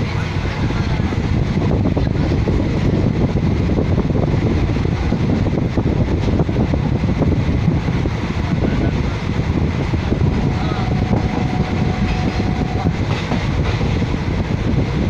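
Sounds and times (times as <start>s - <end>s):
train wheels rumbling on track: 0.0s - 15.0s
wind rushing past: 1.0s - 15.0s.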